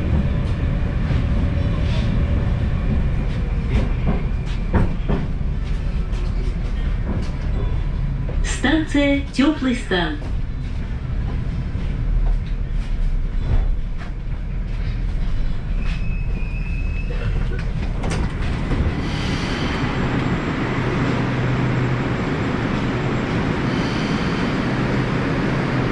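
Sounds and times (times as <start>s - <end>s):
station platform noise: 0.0s - 25.9s
train running gear rumbling: 0.0s - 25.9s.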